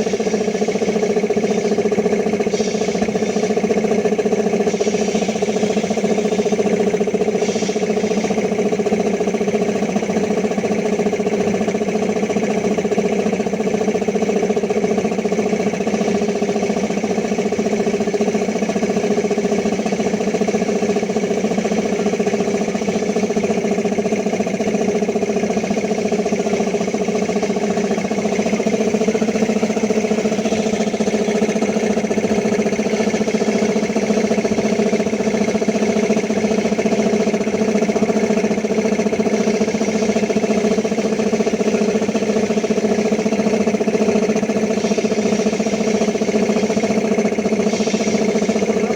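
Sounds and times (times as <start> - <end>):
air compressor running: 0.0 - 48.9.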